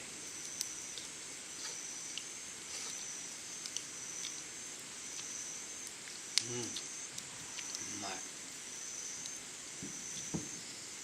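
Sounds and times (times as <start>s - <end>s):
chorus of summer insects: 0.0s - 11.0s.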